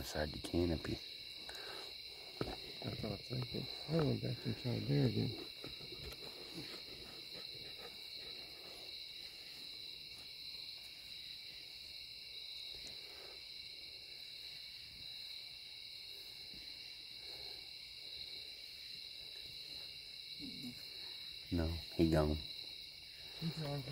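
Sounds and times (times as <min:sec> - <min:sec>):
night insects trilling: 0:00.0 - 0:23.9
rustles: 0:01.5 - 0:21.9.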